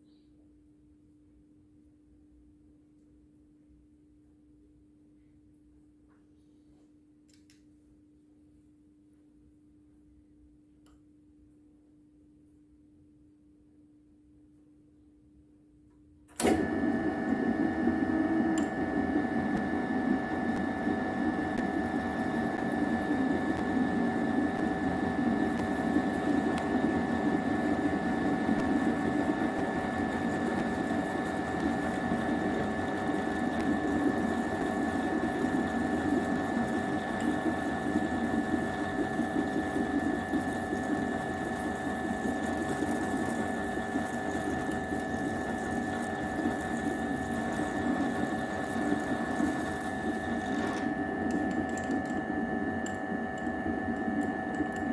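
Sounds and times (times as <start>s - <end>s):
small machine whine and hum: 0.0s - 54.9s.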